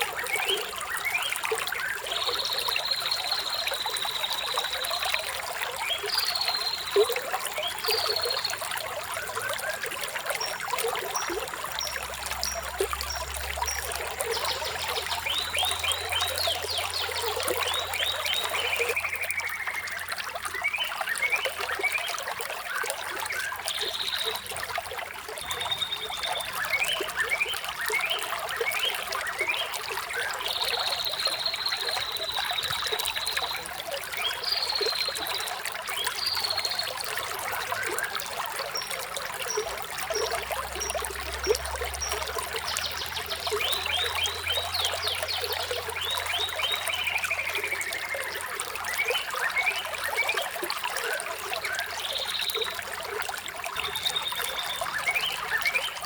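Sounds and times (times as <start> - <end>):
trickling running water: 0.0 - 56.0.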